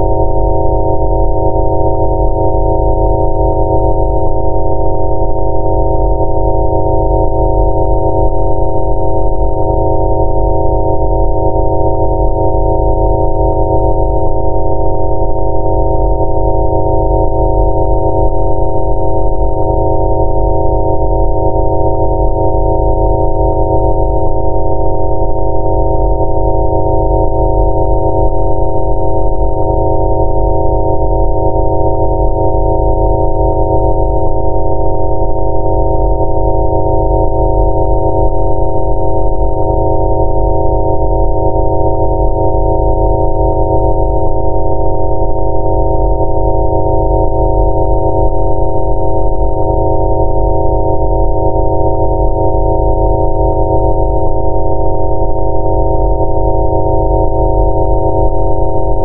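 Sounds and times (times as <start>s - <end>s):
synthesized sine tones: 0.0s - 59.0s.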